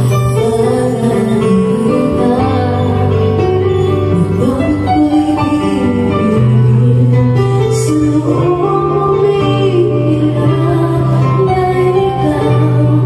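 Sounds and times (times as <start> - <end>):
sustained bass notes: 0.0 - 13.0
woman singing lead vocal: 0.0 - 13.0.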